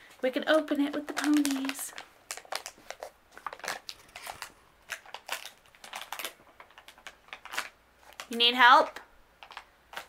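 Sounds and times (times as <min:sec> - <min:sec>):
plastic wrapper crackling: 0:00.5 - 0:10.0.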